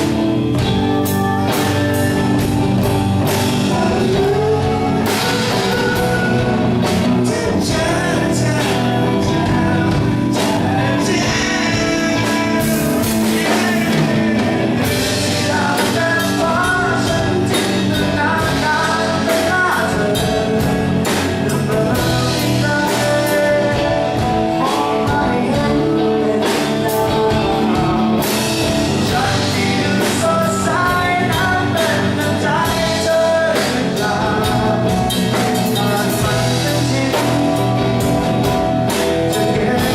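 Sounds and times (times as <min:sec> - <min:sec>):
bass guitar: 0:00.0 - 0:39.9
drum kit: 0:00.0 - 0:39.9
electric lead guitar: 0:00.0 - 0:39.9
person singing: 0:00.0 - 0:39.9.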